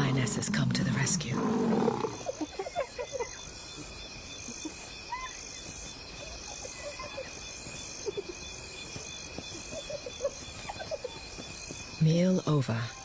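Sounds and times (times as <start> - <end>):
insect trill: 0.0 - 13.0
pulsing insect chirp: 0.0 - 13.0.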